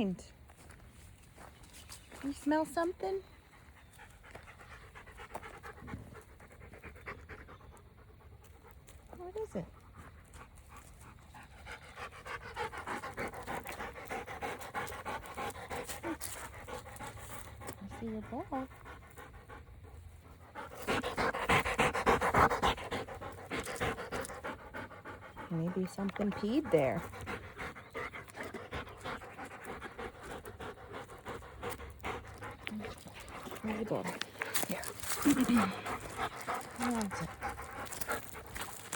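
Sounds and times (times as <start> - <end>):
dog panting: 1.4 - 38.9.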